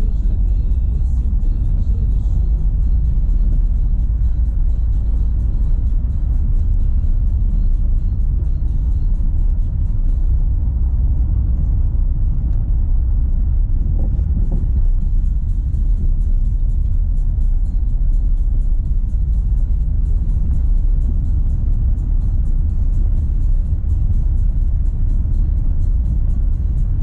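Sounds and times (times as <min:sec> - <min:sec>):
tyres rumbling on dirt road: 0:00.0 - 0:27.0.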